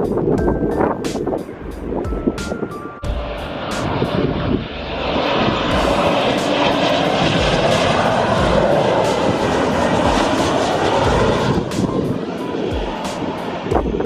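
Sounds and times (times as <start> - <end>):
jet engines roaring: 0.9 - 14.0.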